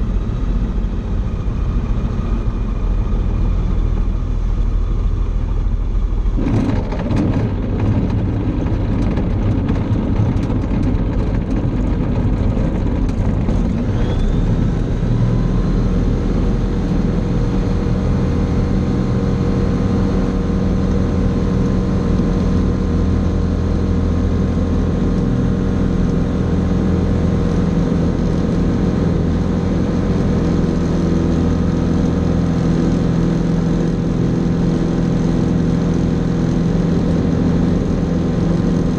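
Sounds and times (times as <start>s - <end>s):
aircraft engine and propeller drone: 0.0s - 38.9s
rising whine: 0.0s - 38.9s
wheels rattling over grass runway: 2.0s - 38.9s.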